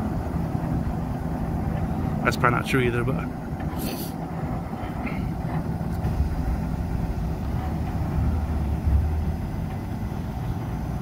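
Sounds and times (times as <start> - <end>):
heavy engine rumbling: 0.0 - 11.0.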